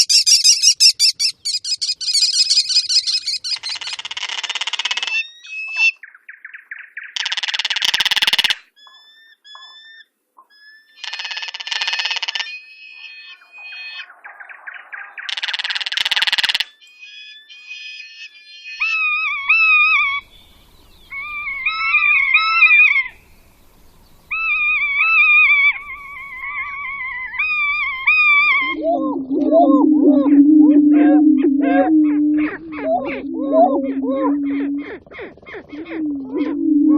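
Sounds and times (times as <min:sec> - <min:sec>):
bird warbling: 0:00.0 - 0:06.1, 0:10.6 - 0:36.9
harsh buzzy bird calls: 0:00.0 - 0:36.9.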